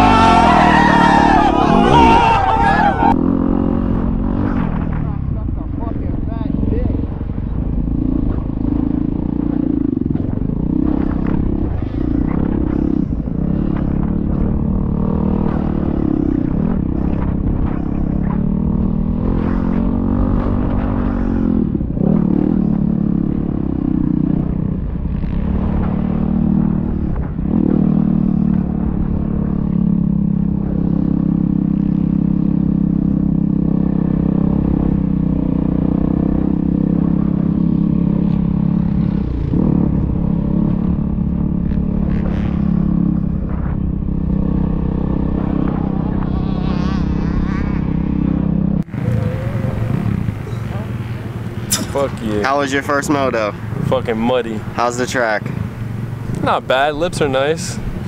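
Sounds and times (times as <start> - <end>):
dirt bike engine revving: 0.0 - 5.4, 6.3 - 58.0.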